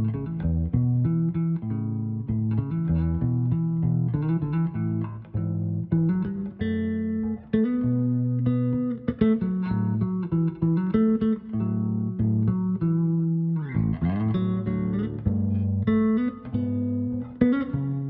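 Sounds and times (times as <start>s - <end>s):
electric bass fingerstyle: 0.0s - 18.0s.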